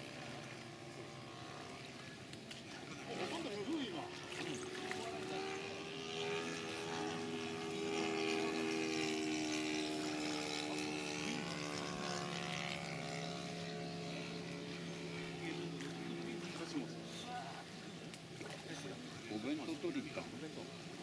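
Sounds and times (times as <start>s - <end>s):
low hum: 0.0s - 21.0s
propeller plane engine droning: 0.0s - 21.0s.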